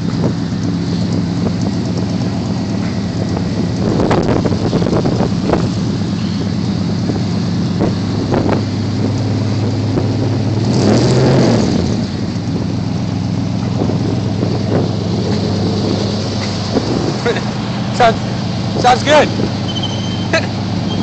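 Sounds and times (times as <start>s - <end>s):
deep engine exhaust note: 0.0s - 21.0s.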